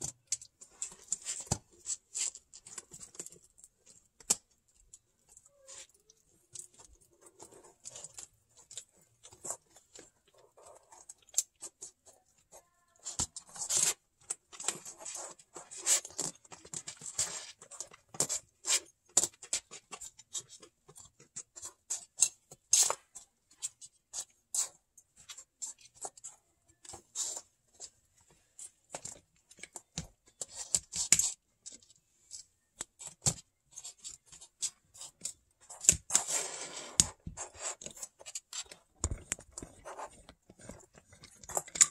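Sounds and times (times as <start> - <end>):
scratching: 0.0 - 41.9.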